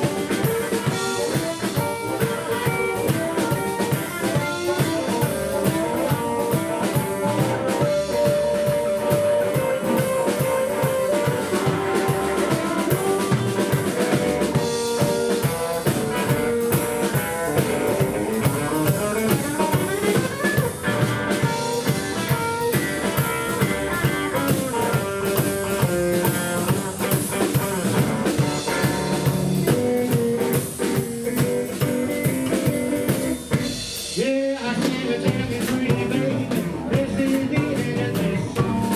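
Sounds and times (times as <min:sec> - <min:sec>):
double bass: 0:00.0 - 0:30.4, 0:34.3 - 0:38.9
harmonica: 0:00.0 - 0:34.0
drum kit beat: 0:00.0 - 0:38.9
electric guitar: 0:00.0 - 0:38.9.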